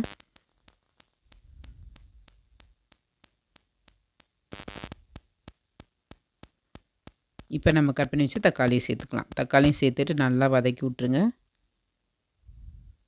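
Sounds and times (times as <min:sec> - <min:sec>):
faint ticking: 0:00.0 - 0:10.7.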